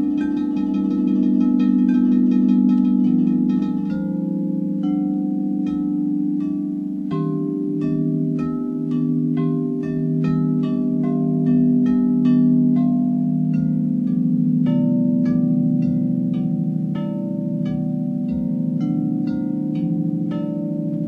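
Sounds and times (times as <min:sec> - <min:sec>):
bright struck bowl notes: 0:00.0 - 0:21.0
singing bowls humming: 0:00.0 - 0:21.0.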